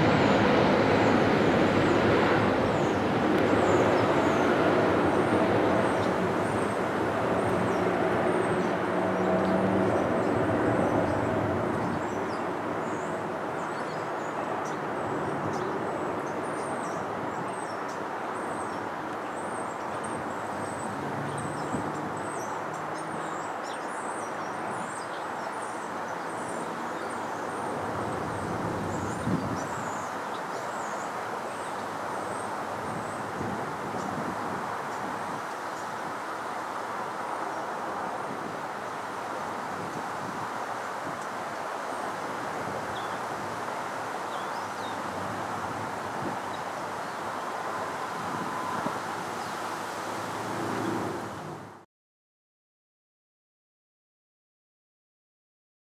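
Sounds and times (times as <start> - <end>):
jet engines roaring overhead: 0.0 - 51.8.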